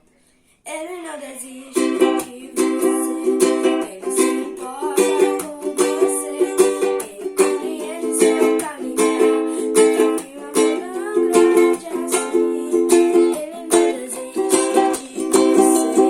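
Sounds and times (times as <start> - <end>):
ukulele strumming chords: 1.7 - 16.0.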